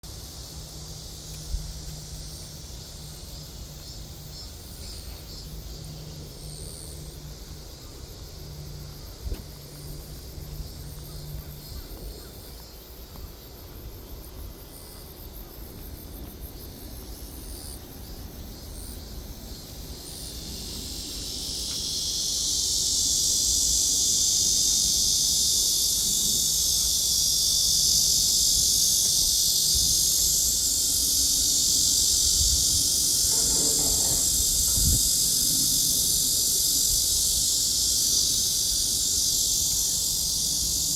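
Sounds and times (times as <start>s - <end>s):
insects chirping: 0.0s - 40.9s
insect buzzing chorus: 0.1s - 40.9s.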